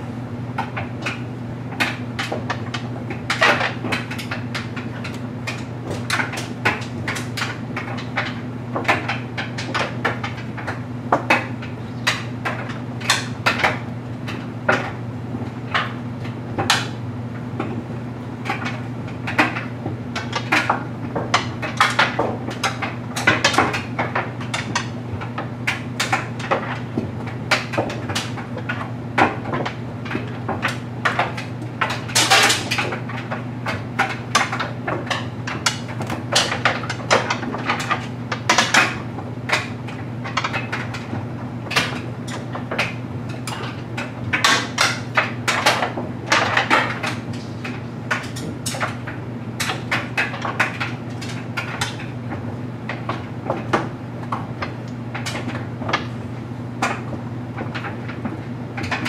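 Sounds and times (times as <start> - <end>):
clothes dryer humming: 0.0 - 59.0.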